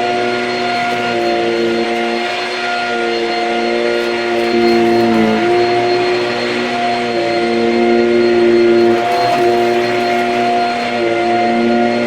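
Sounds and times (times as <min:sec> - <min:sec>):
stick vacuum motor whine: 0:00.0 - 0:12.0.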